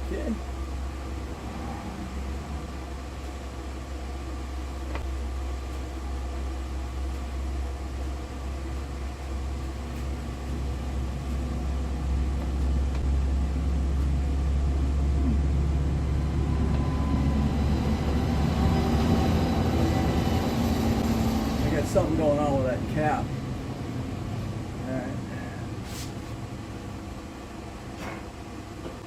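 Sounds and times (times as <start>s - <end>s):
car engine humming: 0.0s - 25.8s.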